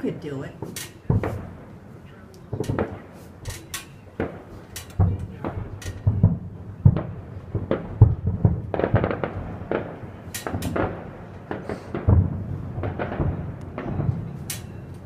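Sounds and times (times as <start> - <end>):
fireworks crackles: 0.0 - 15.0
distant fireworks booms and pops: 0.6 - 1.8, 2.5 - 15.0.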